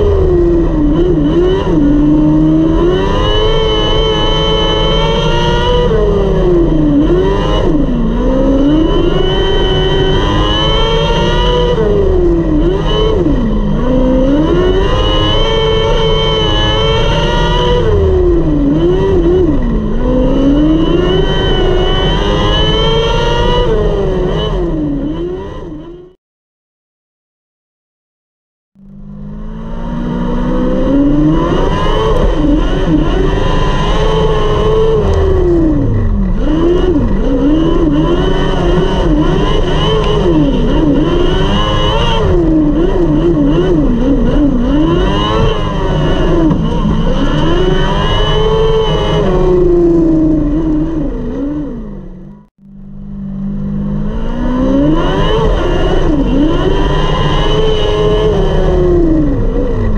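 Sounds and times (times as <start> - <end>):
motorcycle engine revving: 0.0 - 26.2, 28.8 - 59.9.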